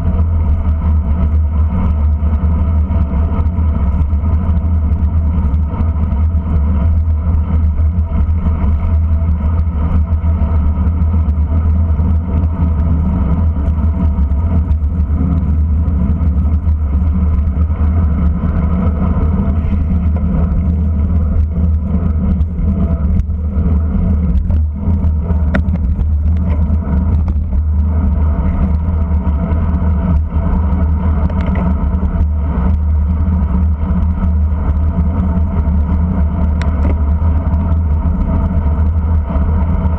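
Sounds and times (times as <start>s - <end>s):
road rumble: 0.0s - 39.9s
wind on microphone: 0.0s - 39.9s.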